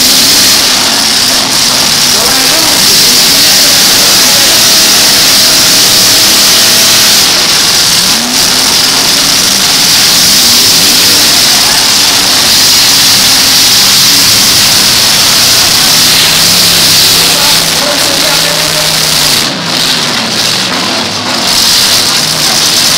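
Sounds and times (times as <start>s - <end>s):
steady loud hiss: 0.0s - 22.9s
truck engines revving: 0.0s - 22.9s.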